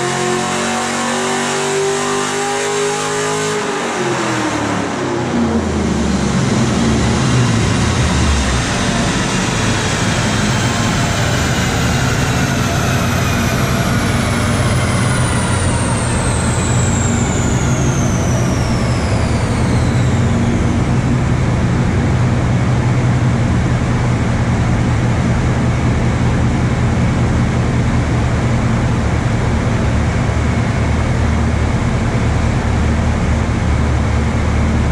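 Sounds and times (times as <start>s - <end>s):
car engine rumbling: 5.0s - 34.9s
high whine falling in pitch: 5.4s - 34.9s.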